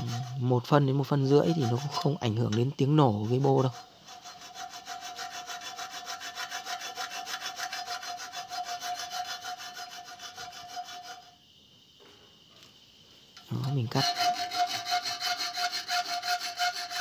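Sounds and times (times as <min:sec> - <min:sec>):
hacksaw sawing through metal pipe: 0:00.0 - 0:11.3, 0:13.8 - 0:17.0.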